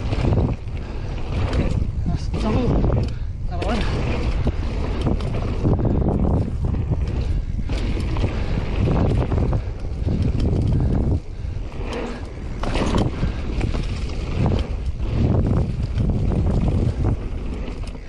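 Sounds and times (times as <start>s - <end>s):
bike rattling over bumps: 0.0s - 18.0s
wind buffeting microphone: 0.0s - 18.0s.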